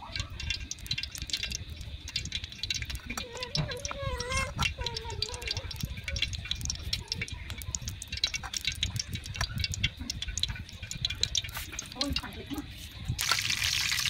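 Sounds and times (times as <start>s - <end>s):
light clicks and taps on plate: 0.0s - 12.7s.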